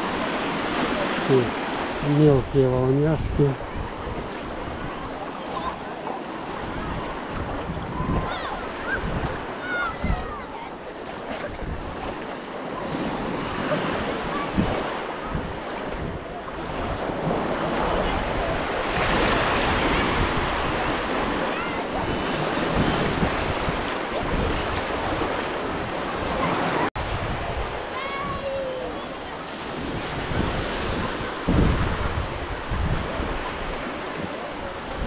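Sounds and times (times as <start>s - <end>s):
small waves washing onto sand: 0.0s - 35.0s
wind rumbling on microphone: 0.0s - 35.0s.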